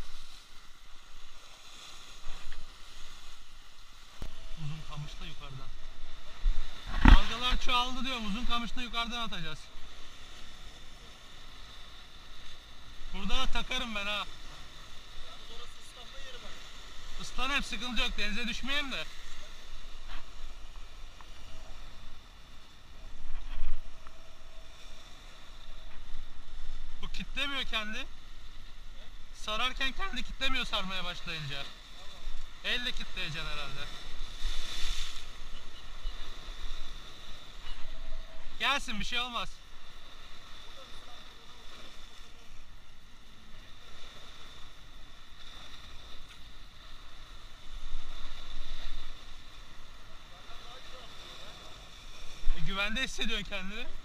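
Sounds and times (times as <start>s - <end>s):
waves breaking on rocks: 0.0s - 54.0s.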